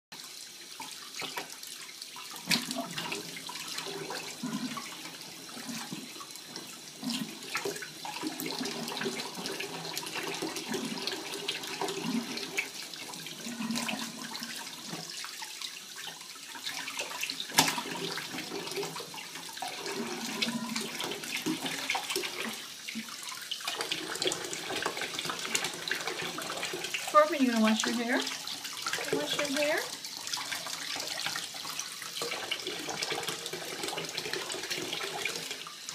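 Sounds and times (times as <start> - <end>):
bathwater splashing: 0.2 - 35.9.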